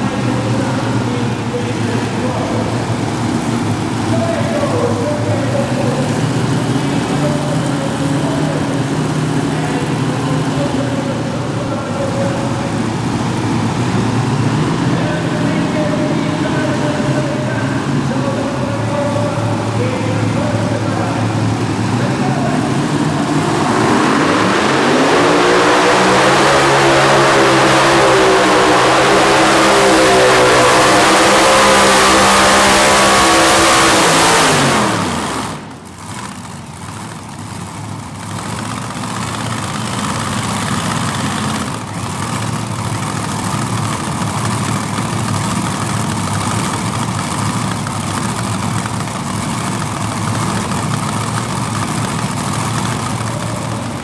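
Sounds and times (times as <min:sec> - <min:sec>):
tractor engines running flat out: 0:00.0 - 0:54.0.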